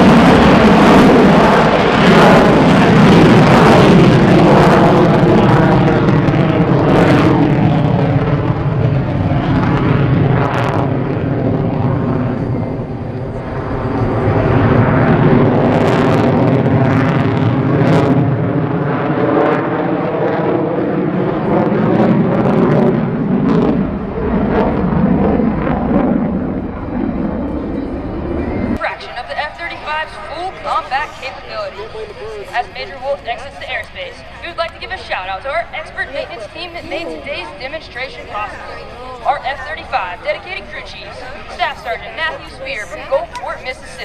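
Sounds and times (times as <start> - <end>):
jet engine roar: 0.0 - 44.0.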